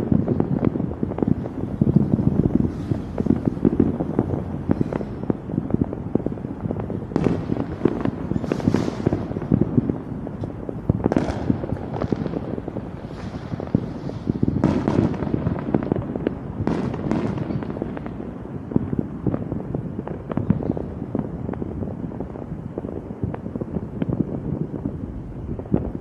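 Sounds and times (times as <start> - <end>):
fireworks popping and crackling: 0.0 - 26.0
loud firework bursts: 0.0 - 26.0.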